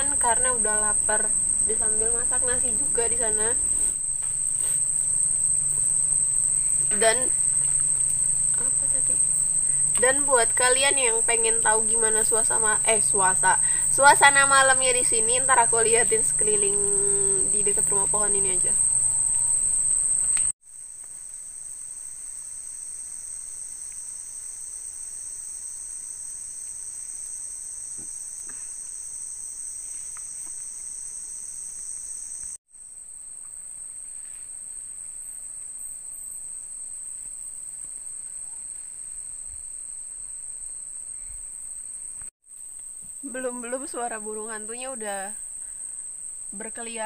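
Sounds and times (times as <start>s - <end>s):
crickets chirring: 0.0s - 47.0s.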